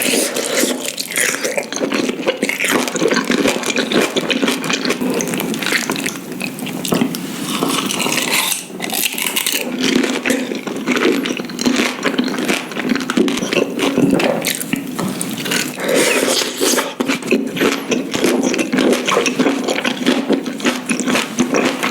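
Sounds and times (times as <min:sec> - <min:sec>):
wet chewing mouth sounds: 0:00.0 - 0:21.9.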